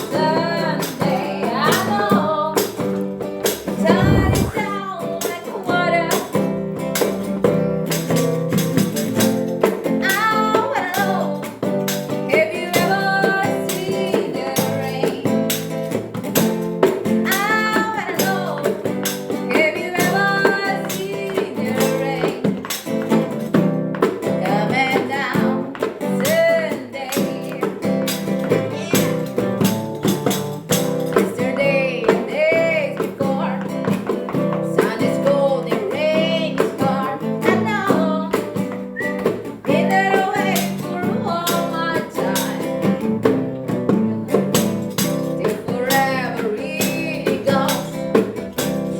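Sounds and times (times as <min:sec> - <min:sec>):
strummed acoustic guitar: 0:00.0 - 0:48.9.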